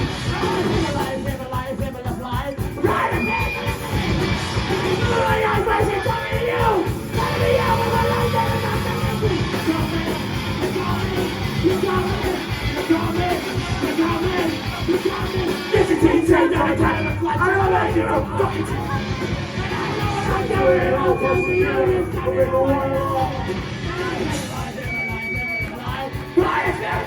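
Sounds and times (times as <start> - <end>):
drums: 0.0 - 27.0
rock band playing: 0.0 - 27.0.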